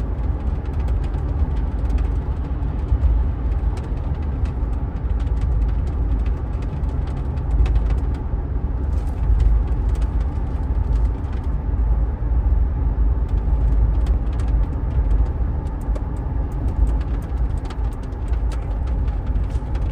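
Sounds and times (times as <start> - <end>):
road and drivetrain rumble: 0.0 - 19.9.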